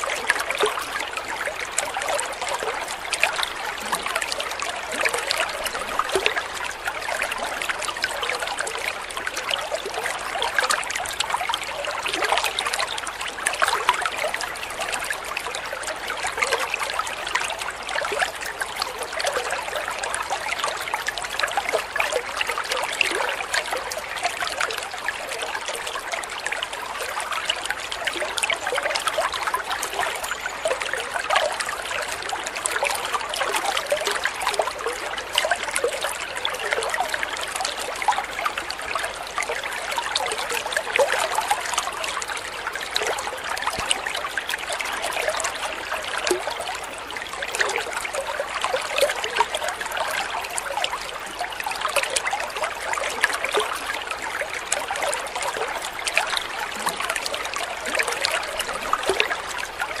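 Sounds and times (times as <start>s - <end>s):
water stream splashing into pond: 0.0s - 60.0s.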